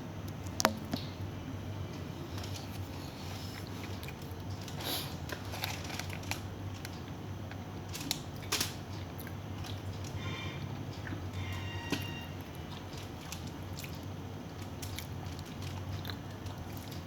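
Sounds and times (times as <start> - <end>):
low steady hum: 0.0 - 17.0
food clicks and crackles: 2.3 - 10.2, 10.8 - 17.0.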